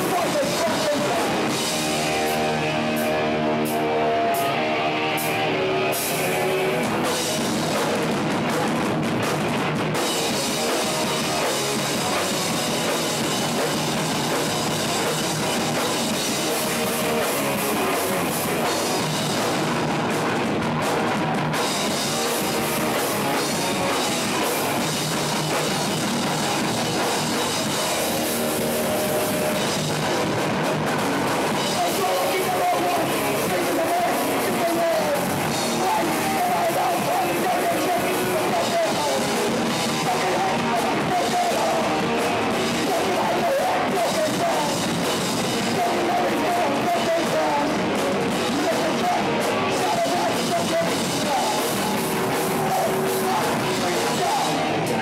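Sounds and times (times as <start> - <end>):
bass guitar: 0.0 - 55.0
distorted electric guitars: 0.0 - 55.0
drum kit: 0.0 - 55.0.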